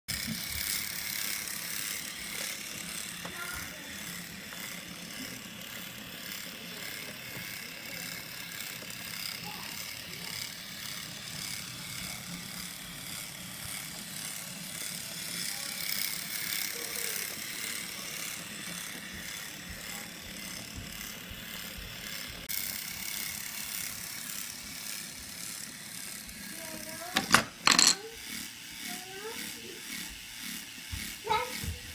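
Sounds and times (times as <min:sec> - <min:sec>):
toy train whirring on track: 0:00.1 - 0:31.9.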